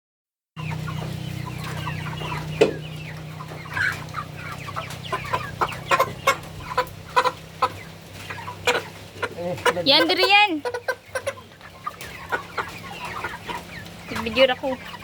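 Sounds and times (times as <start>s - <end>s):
chickens clucking: 0.6s - 15.0s
steady low hum: 0.6s - 15.0s.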